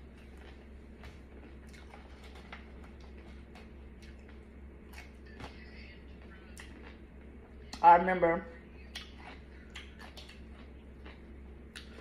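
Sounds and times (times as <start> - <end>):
faint chewing with mouth clicks: 0.0 - 7.8, 8.7 - 12.0
steady low hum: 0.0 - 12.0.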